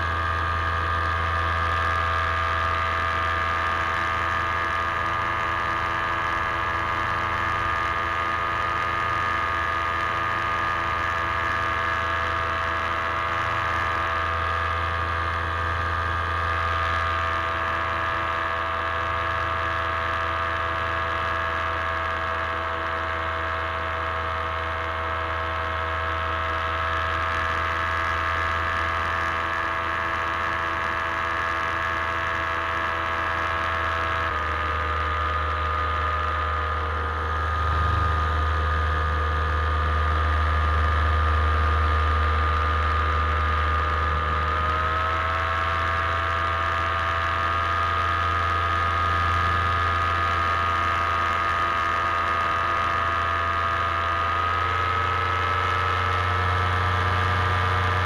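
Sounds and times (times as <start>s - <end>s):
paramotor engine and propeller: 0.0s - 58.0s.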